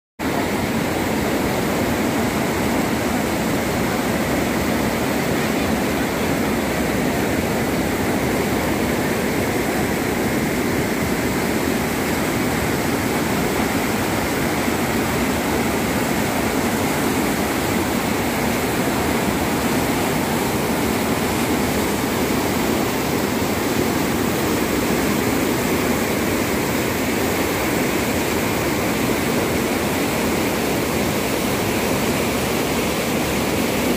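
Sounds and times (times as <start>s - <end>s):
water rushing over a weir: 0.2s - 33.9s.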